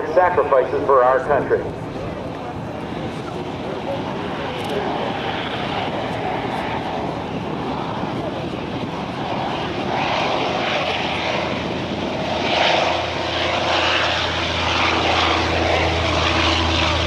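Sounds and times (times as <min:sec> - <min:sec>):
aircraft piston engine drone: 0:00.0 - 0:17.0
low engine hum: 0:00.0 - 0:17.0.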